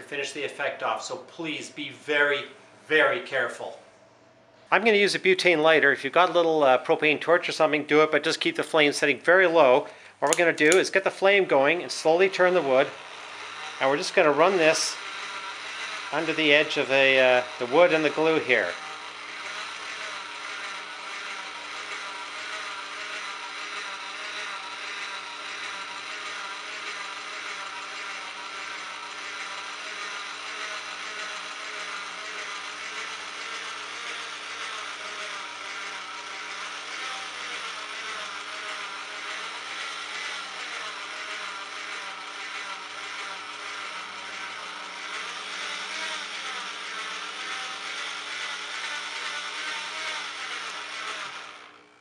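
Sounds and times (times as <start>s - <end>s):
small motor whirring: 6.1s - 52.0s.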